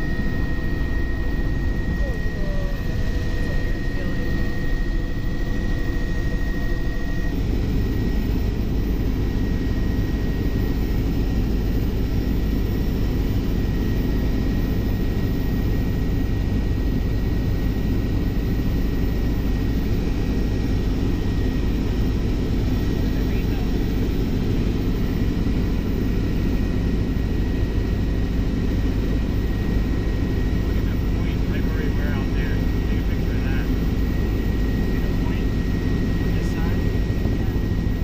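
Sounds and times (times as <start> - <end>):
helicopter engine and rotor drone: 0.0 - 38.0.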